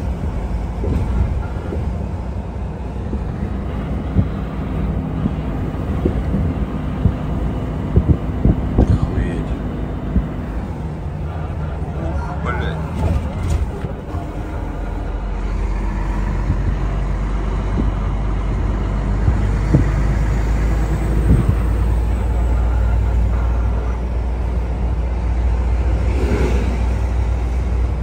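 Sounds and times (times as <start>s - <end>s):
truck diesel engine drone: 0.0s - 28.0s.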